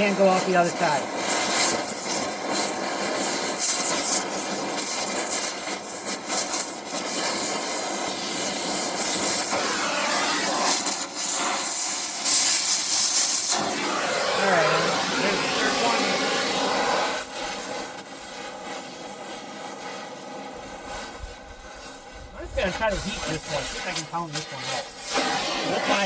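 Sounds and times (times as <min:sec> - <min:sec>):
cutting torch hissing: 0:00.0 - 0:26.0.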